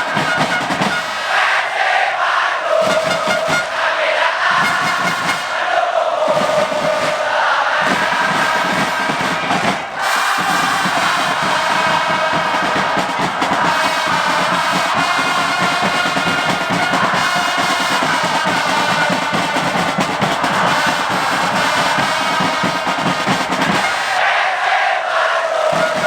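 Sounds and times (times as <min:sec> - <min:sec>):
fast drumming: 0:00.0 - 0:01.7, 0:02.8 - 0:03.8, 0:04.5 - 0:05.5, 0:06.2 - 0:24.2, 0:25.6 - 0:26.0
crowd chanting: 0:00.0 - 0:26.0.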